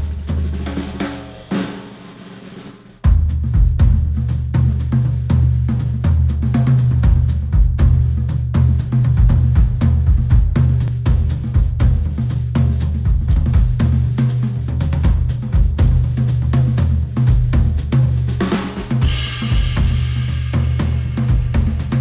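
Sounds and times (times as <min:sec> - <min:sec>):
drum kit and heavy bass music: 0:00.0 - 0:02.2, 0:03.0 - 0:22.0.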